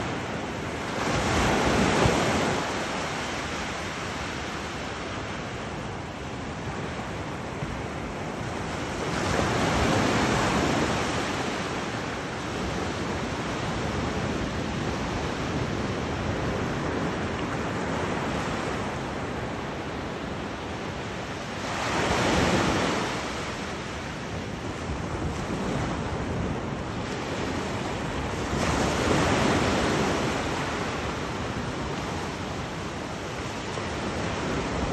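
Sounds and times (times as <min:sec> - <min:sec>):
ocean waves breaking on beach: 0:00.0 - 0:34.9.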